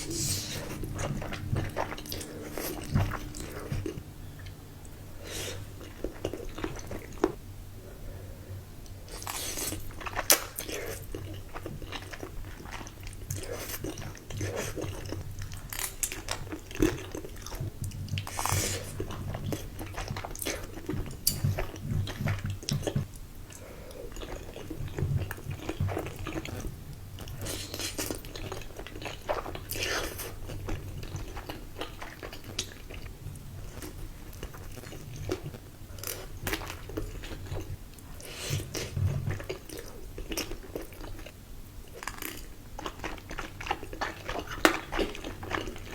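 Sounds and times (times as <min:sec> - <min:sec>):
person chewing food: 0:00.0 - 0:07.4, 0:08.9 - 0:45.9.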